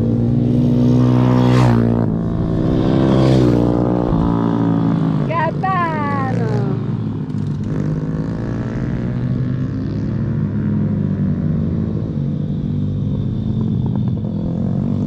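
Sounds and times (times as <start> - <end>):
motorbike engine buzzing drone: 0.0 - 15.0.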